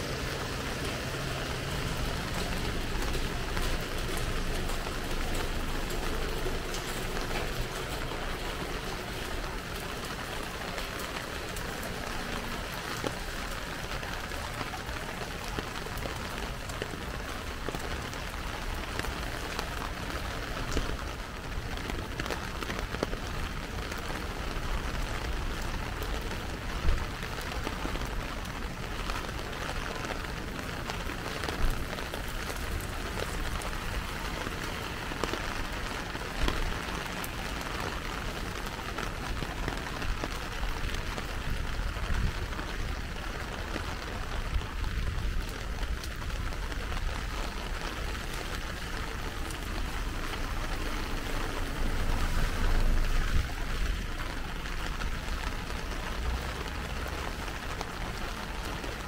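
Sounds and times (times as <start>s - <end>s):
heavy rain on pavement: 0.0s - 59.0s
sharp rain taps: 0.0s - 59.0s.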